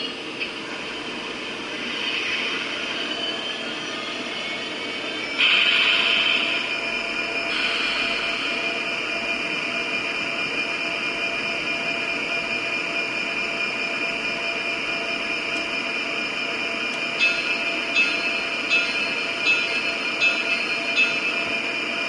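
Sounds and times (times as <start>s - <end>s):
diesel engine sound through small speaker: 0.0s - 22.0s.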